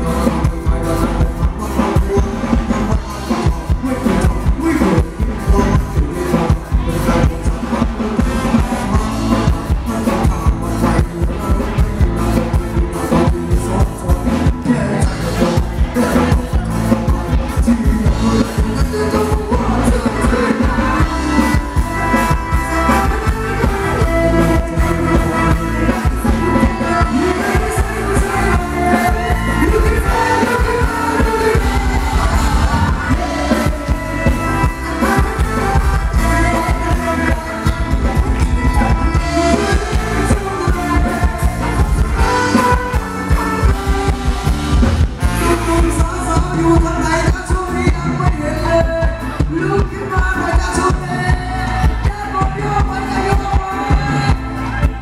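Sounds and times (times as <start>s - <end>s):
live band playing dance song: 0.0s - 55.0s
person singing: 0.0s - 55.0s.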